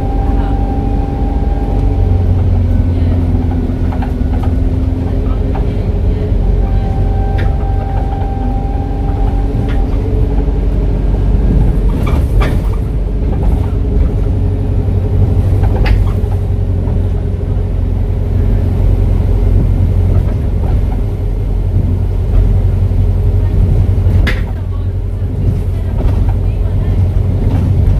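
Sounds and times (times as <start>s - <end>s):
bus engine deep rumble: 0.0s - 27.9s.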